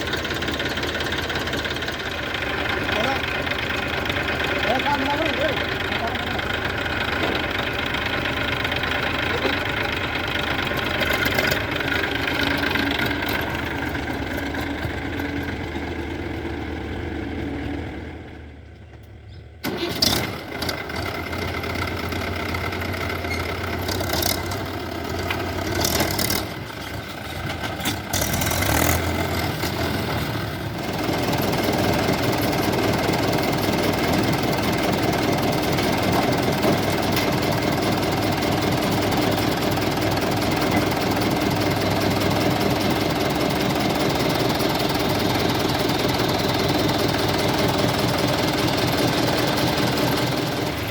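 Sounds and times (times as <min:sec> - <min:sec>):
diesel machinery engines running: 0:00.0 - 0:50.9.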